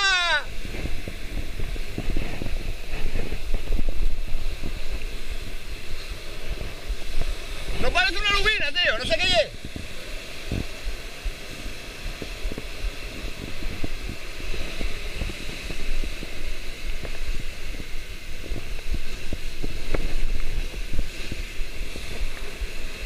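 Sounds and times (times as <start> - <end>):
sea waves breaking on rocks: 0.0 - 23.0
wind buffeting microphone: 0.0 - 23.0.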